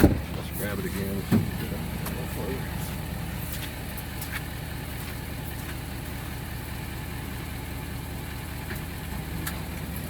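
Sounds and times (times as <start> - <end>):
pickup truck engine idling: 0.0 - 10.0.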